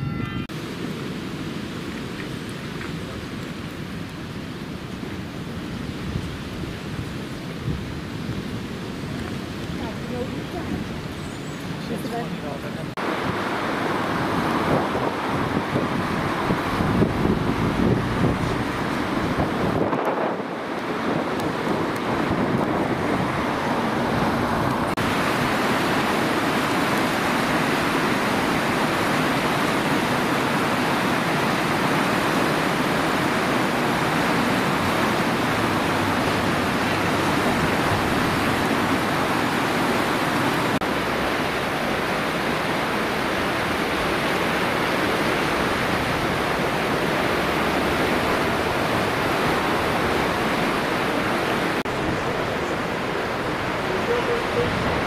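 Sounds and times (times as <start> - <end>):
river rushing over a weir: 0.0 - 55.0.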